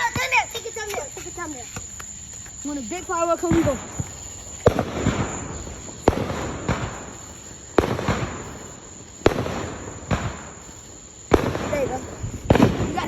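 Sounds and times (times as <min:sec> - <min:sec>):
fireworks bangs: 0:00.0 - 0:13.0
small fireworks pops: 0:00.0 - 0:13.0.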